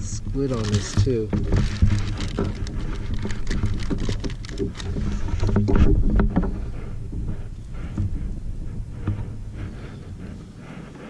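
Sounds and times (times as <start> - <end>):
gear knocking on plastic kayak: 0.0 - 10.6.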